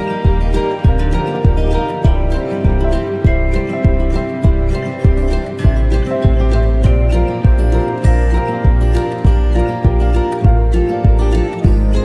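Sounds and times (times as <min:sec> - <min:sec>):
background music with sustained notes: 0:00.0 - 0:12.0
steady low beat: 0:00.0 - 0:12.0.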